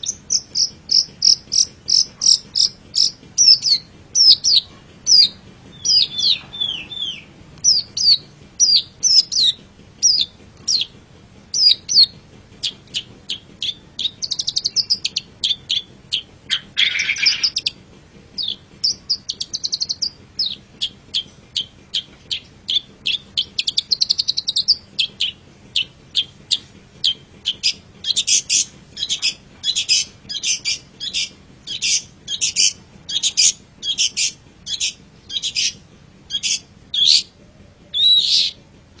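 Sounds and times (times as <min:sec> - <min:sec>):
bird singing chirps and whistles: 0:00.0 - 0:10.9, 0:11.5 - 0:12.1, 0:12.9 - 0:17.8, 0:18.4 - 0:26.3, 0:27.0 - 0:37.3, 0:37.9 - 0:38.6
harsh bird rasp: 0:00.0 - 0:38.6.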